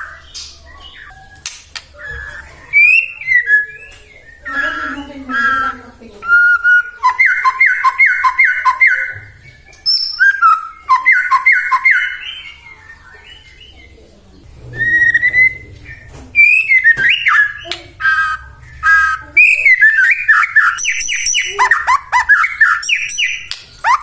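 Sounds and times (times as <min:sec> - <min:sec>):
songbird whistling phrases: 0:00.0 - 0:24.0.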